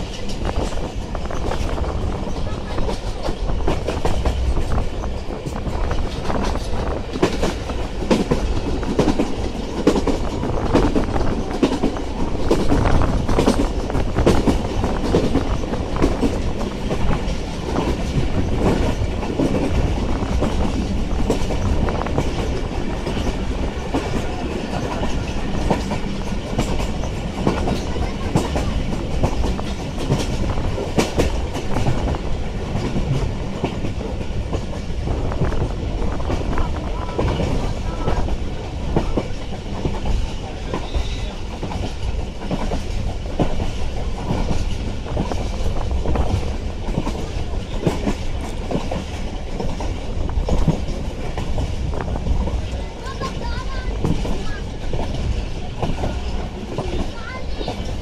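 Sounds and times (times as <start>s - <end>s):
train rumbling: 0.0s - 58.0s
wheels clacking over rail joints: 0.0s - 58.0s.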